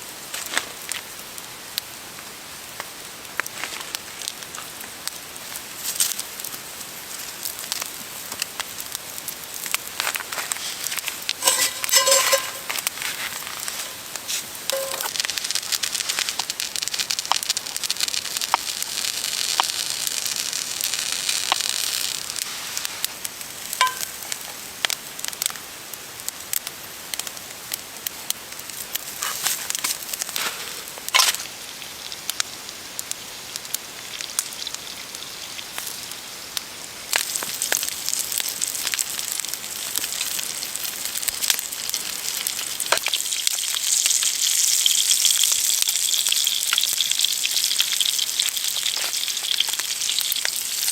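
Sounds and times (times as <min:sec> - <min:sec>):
food sizzling in a pan: 0:00.0 - 0:50.9
burning wood popping and crackling: 0:00.1 - 0:50.9.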